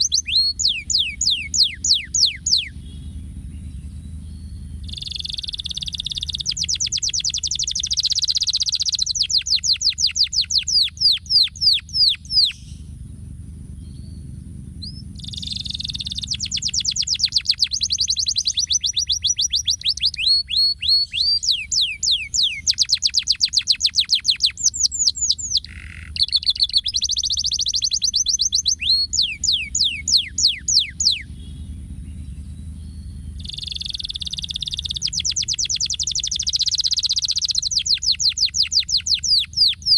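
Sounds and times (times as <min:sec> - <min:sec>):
canary singing trills: 0:00.0 - 0:39.9
steady low hum: 0:00.0 - 0:39.9.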